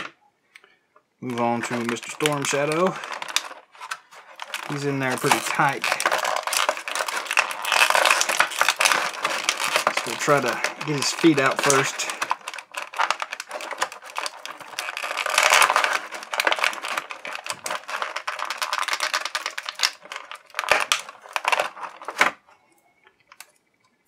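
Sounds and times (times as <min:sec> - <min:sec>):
plastic blister tray crinkling: 0:01.2 - 0:23.6.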